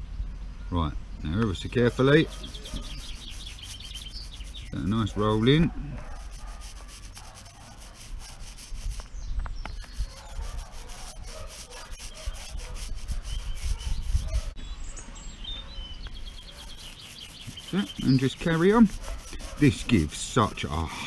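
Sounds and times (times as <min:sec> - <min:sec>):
paint roller rubbing on grit: 0:01.4 - 0:09.1, 0:09.7 - 0:14.6, 0:16.2 - 0:21.0.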